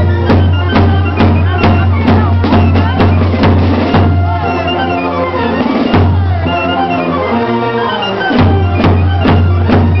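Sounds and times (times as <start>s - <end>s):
drum strokes: 0.0s - 7.0s, 8.2s - 10.0s
parade music melody: 0.0s - 10.0s.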